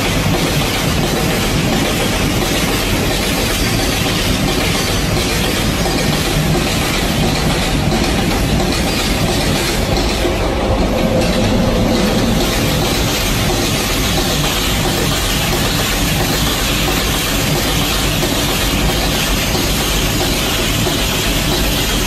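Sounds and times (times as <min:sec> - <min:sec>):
freight train wheels rolling on rails: 0:00.0 - 0:22.0.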